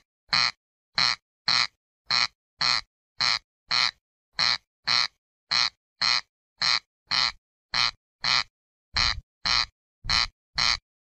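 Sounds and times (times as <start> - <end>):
corncrake rasping call: 0.3 - 10.8.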